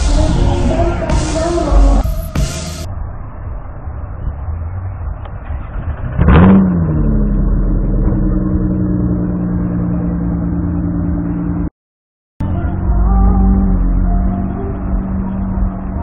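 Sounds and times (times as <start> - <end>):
car engine revving and idling: 0.0 - 11.7, 12.4 - 16.0.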